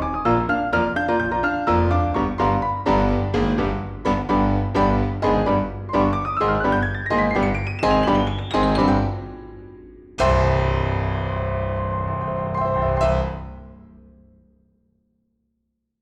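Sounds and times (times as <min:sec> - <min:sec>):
piano-like keyboard chords: 0:00.0 - 0:13.8.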